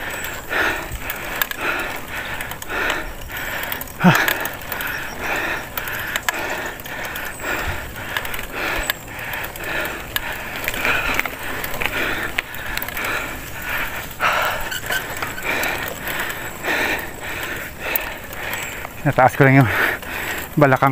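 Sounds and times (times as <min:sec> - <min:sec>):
person breathing hard: 0:00.0 - 0:19.0, 0:19.6 - 0:20.6
bike clicks and rattles: 0:00.0 - 0:20.9.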